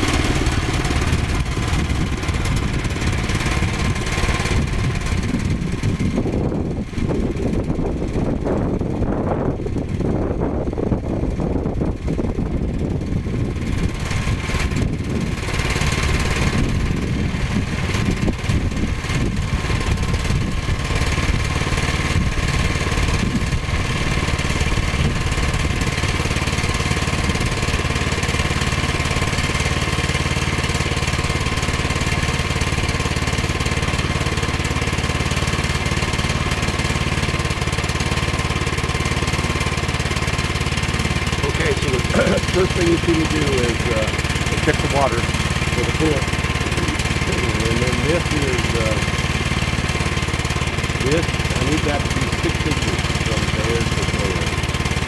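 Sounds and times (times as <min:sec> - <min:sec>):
sawmill gas engine running: 0:00.0 - 0:55.0.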